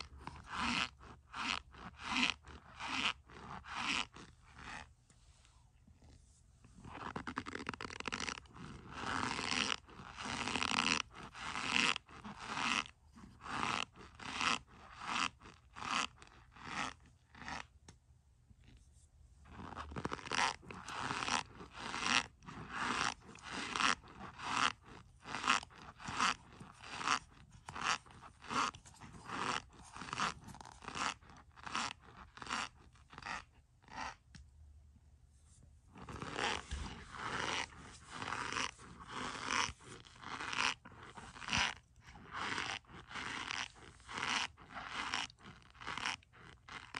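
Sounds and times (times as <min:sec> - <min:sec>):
utensil scraping soap crunchily: 0:00.0 - 0:04.9, 0:06.8 - 0:17.7, 0:19.5 - 0:34.2, 0:35.9 - 0:46.9.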